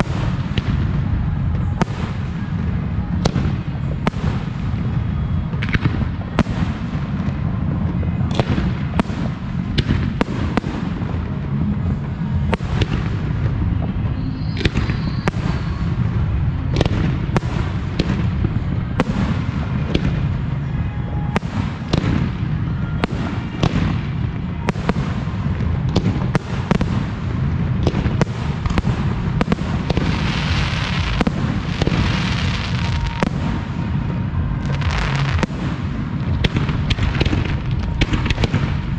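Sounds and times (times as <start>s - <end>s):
firework crackling: 0.0s - 38.9s
low rumble: 0.0s - 38.9s.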